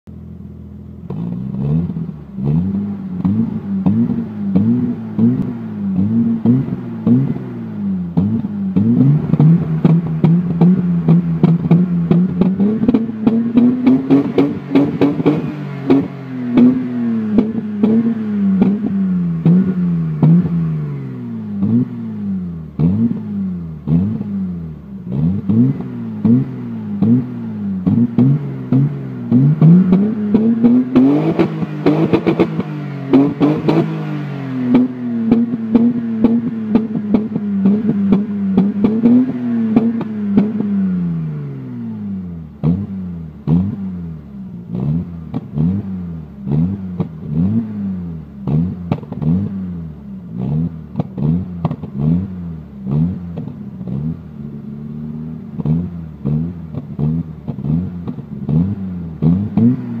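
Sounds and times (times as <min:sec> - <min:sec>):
car engine revving: 0:00.1 - 1:00.0
exhaust cracks: 0:00.7 - 0:41.2, 0:44.6 - 0:54.7, 0:55.3 - 1:00.0.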